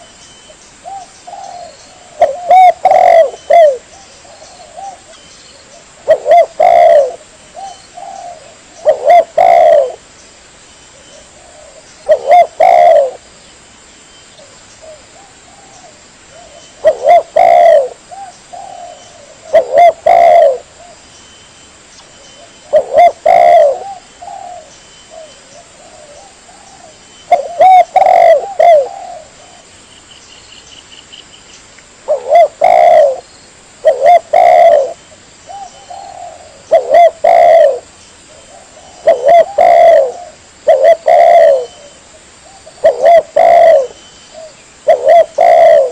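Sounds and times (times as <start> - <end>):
dove cooing: 0.8 - 10.0, 11.2 - 13.3, 14.4 - 21.0, 22.4 - 29.7, 32.0 - 33.2, 33.8 - 45.9.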